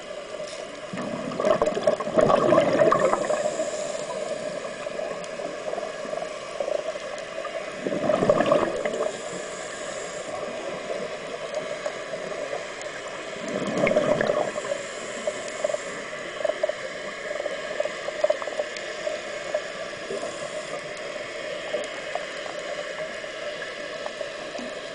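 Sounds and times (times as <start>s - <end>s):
crackling hiss of water: 0.0s - 24.9s
underwater bubbles rushing: 0.0s - 24.9s.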